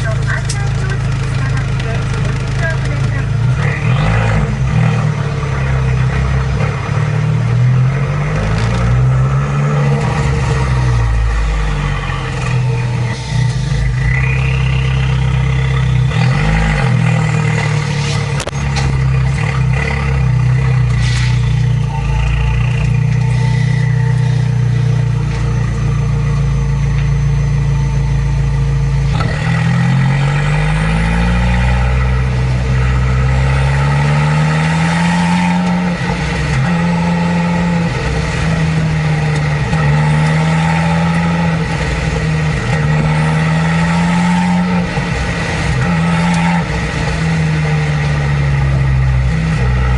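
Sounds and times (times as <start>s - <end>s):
car engine revving and shifting gears: 0.0s - 49.9s.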